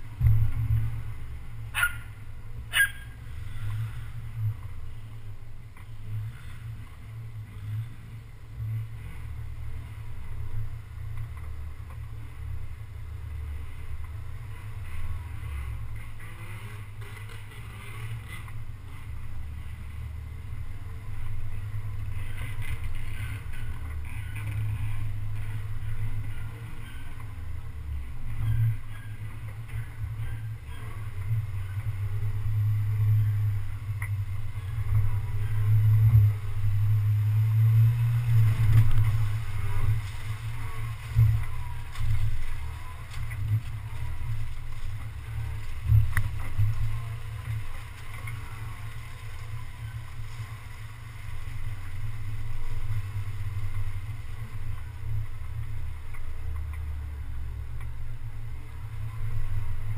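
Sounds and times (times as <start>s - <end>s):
off-road vehicle engine rumble: 0.0s - 59.9s.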